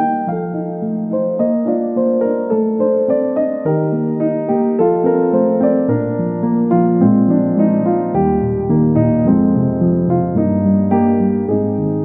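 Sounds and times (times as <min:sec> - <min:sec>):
gentle electric piano melody: 0:00.0 - 0:12.0.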